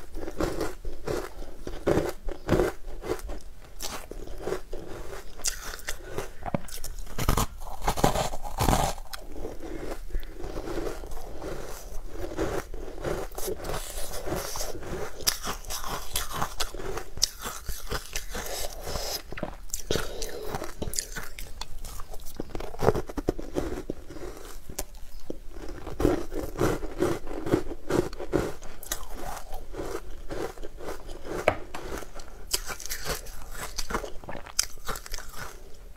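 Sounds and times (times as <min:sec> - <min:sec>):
crunching and chewing ice: 0:00.0 - 0:35.9.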